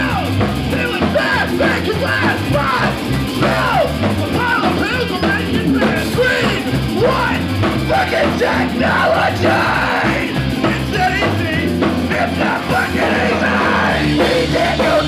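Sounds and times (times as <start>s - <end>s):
drum kit: 0.0s - 15.0s
punk rock band playing: 0.0s - 15.0s.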